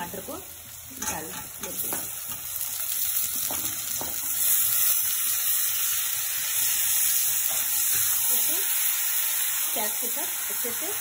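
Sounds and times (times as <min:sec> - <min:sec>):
tomatoes sizzling in a hot pan: 0:00.0 - 0:11.0.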